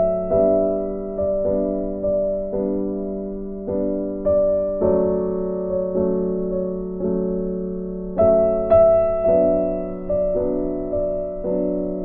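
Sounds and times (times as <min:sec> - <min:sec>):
gentle piano chords: 0:00.0 - 0:12.0.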